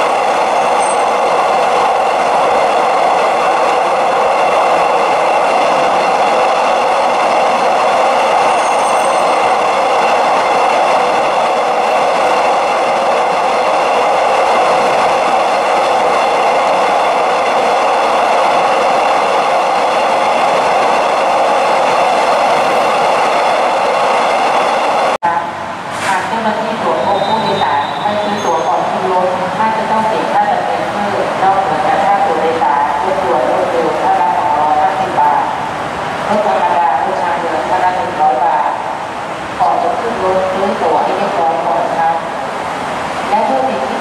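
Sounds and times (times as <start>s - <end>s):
train wheels rushing on rails: 0.0s - 44.0s.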